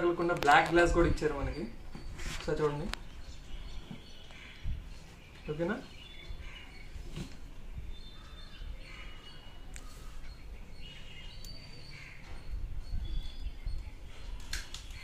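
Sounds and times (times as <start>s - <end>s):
birds chirping: 0.0s - 15.0s
low rumble of street noise: 0.0s - 15.0s.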